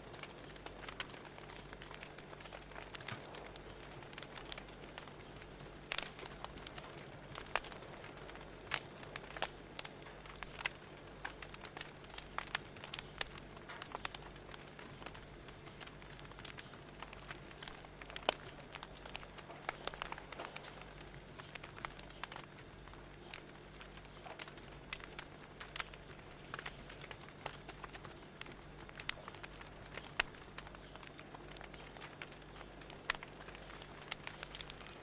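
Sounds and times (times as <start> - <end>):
faint low hum: 0.0 - 35.0
wood fire crackling: 0.0 - 35.0.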